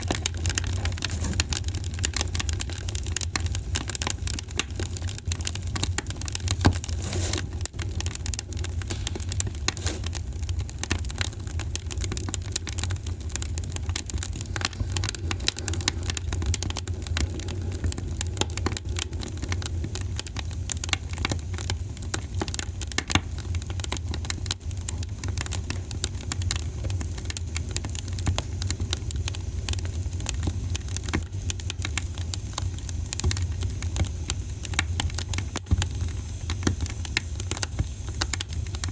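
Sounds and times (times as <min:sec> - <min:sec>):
low fire rumble: 0:00.0 - 0:38.9
wood fire crackling: 0:00.0 - 0:38.9.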